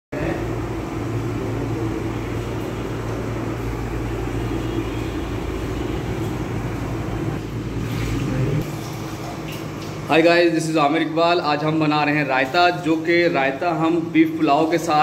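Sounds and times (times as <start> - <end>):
low mechanical hum: 0.2 - 15.0.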